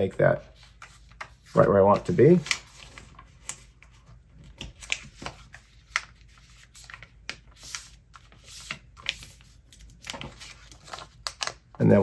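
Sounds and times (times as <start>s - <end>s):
fingers swishing along paper fold: 0.4s - 11.6s
paper rustling and crackling: 0.5s - 12.0s.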